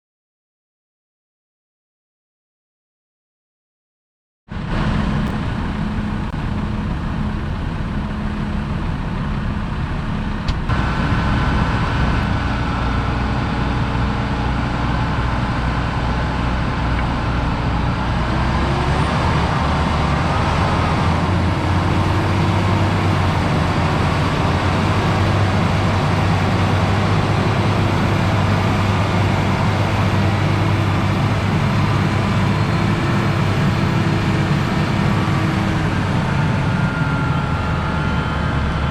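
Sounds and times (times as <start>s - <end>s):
tractor engine running: 4.5s - 38.9s.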